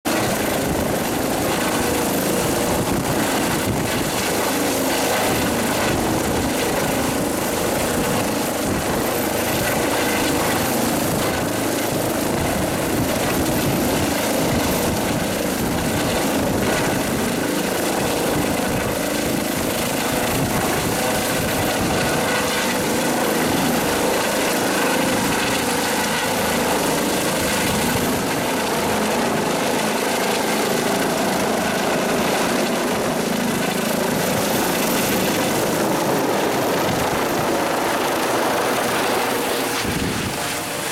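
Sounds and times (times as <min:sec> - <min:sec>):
helicopter hovering: 0:00.1 - 0:40.9.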